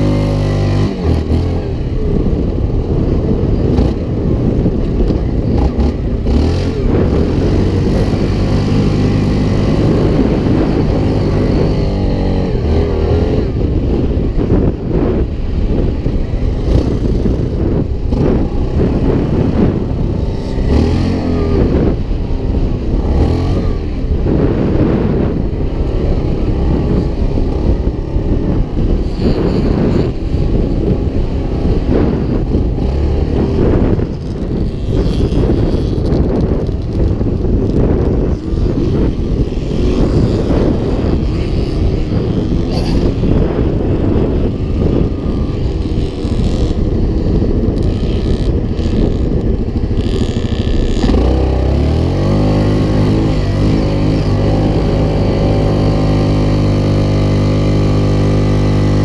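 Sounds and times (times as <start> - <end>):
quad bike engine: 0.0 - 59.0.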